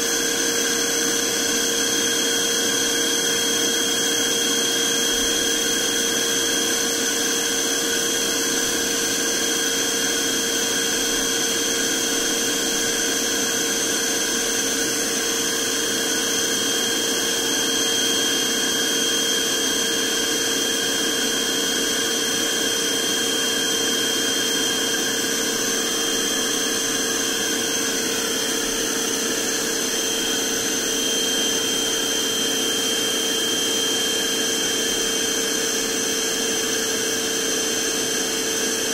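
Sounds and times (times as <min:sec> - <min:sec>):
handheld vacuum cleaner running: 0:00.0 - 0:38.9.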